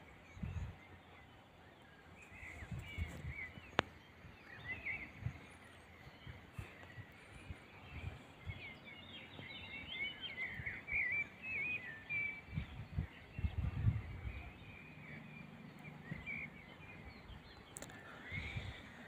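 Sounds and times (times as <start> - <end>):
outdoor background noise: 0.0 - 19.0
small birds chirping and warbling: 0.0 - 19.0.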